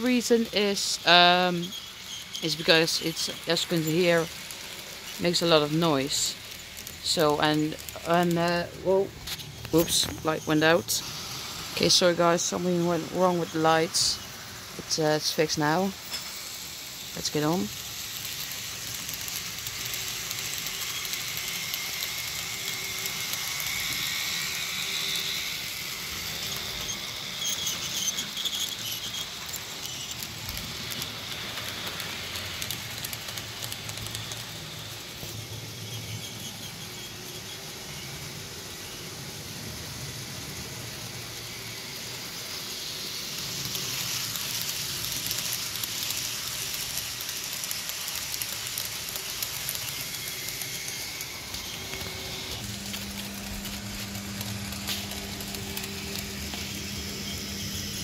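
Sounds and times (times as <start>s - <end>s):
model train motor whine: 0.0s - 58.0s
wagon wheels rolling on track: 0.0s - 58.0s.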